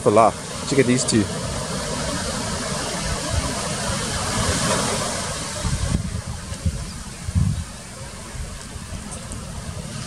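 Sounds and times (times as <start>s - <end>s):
wind gusting on microphone: 0.0s - 10.0s.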